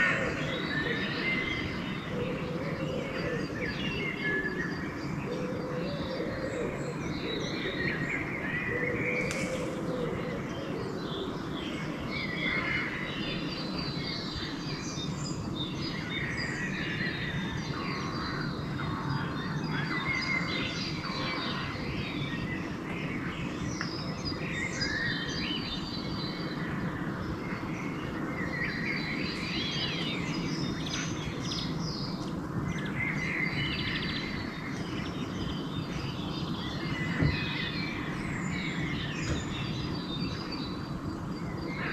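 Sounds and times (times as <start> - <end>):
songbirds singing and chirping: 0.0 - 41.9.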